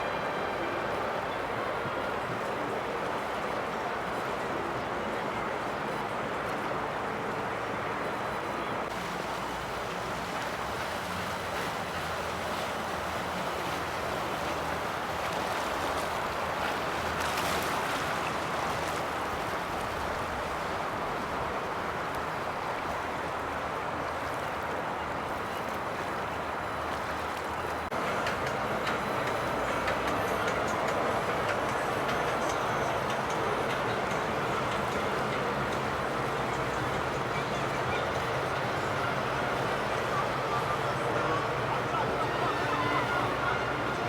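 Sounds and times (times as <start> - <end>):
boat engines running: 0.0 - 44.0
water wash: 0.0 - 44.0.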